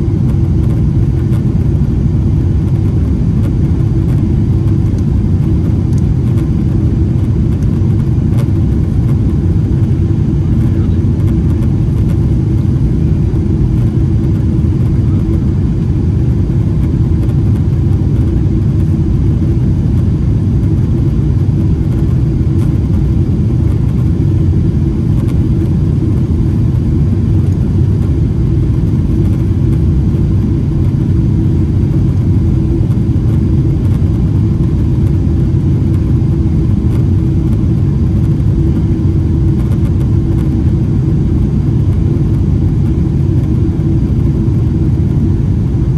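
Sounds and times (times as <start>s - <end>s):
faint steady hum: 0.0s - 45.9s
jet cabin rumble: 0.0s - 45.9s.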